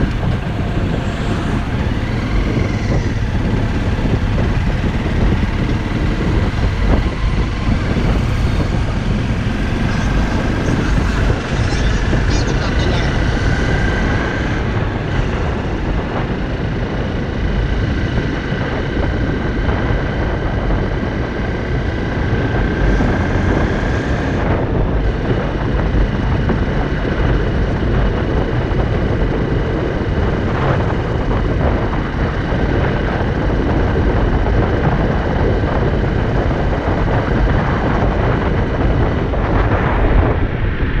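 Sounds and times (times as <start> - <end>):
motorcycle engine running: 0.0 - 41.0
wind rushing on microphone: 0.0 - 41.0.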